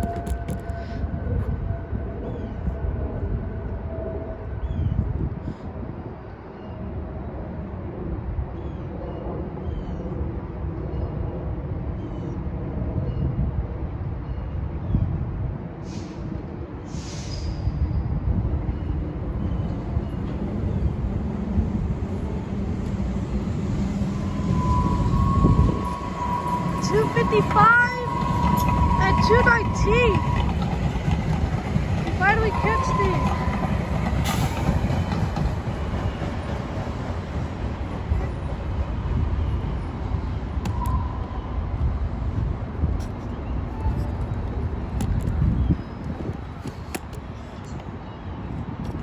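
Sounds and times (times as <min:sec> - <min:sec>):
light rail train rumbling: 0:00.0 - 0:49.0.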